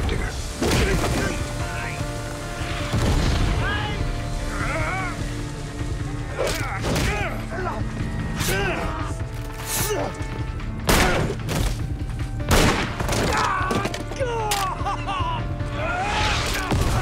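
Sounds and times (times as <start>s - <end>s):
dramatic film score: 0.0s - 17.0s.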